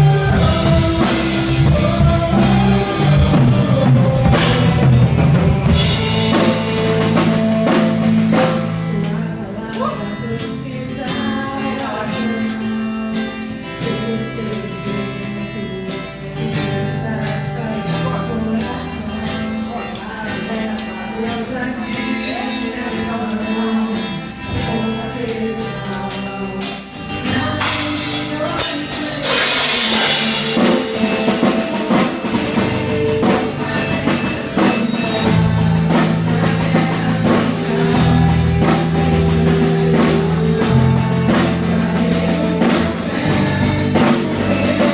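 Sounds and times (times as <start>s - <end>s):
drum kit: 0.0s - 44.9s
guitar: 0.0s - 44.9s
worship band playing: 0.0s - 44.9s.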